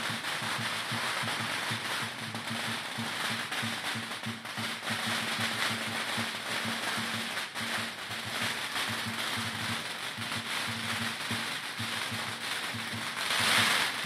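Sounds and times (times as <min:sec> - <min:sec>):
big drum beating fast: 0:00.0 - 0:14.0.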